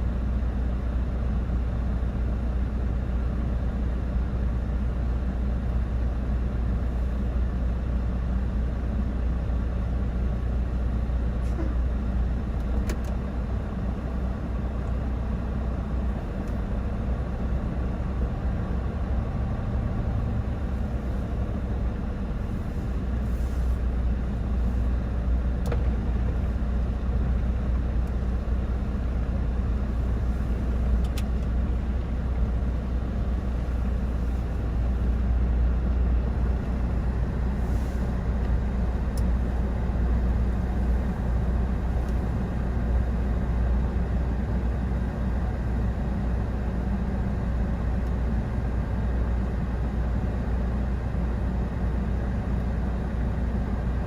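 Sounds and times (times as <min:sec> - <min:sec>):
vehicle road noise rumble: 0:00.0 - 0:54.0.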